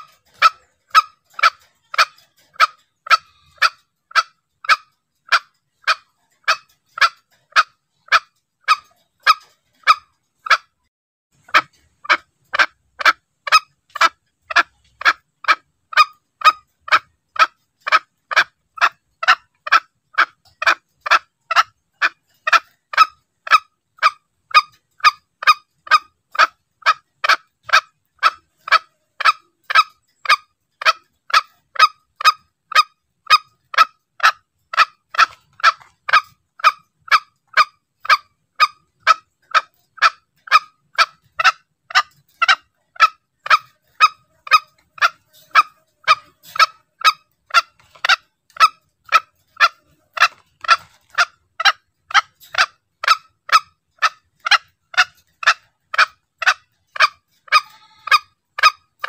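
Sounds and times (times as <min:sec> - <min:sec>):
junglefowl calls: 0:00.0 - 0:10.8, 0:11.4 - 0:59.0.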